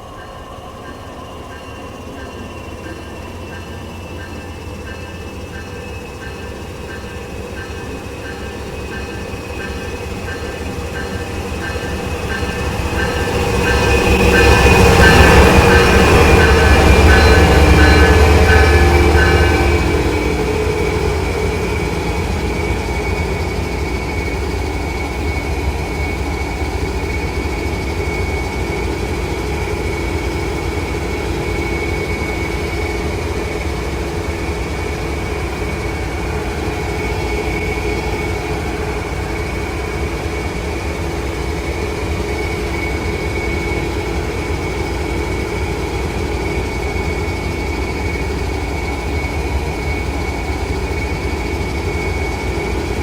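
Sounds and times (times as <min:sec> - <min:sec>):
constant high whine: 0:00.0 - 0:53.0.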